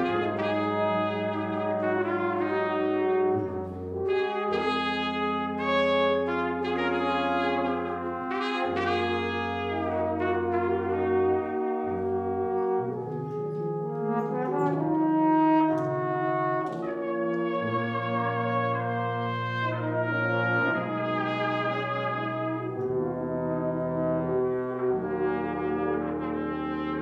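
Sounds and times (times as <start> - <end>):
brass quintet playing chords: 0.0 - 27.0
tuba low notes: 0.0 - 27.0.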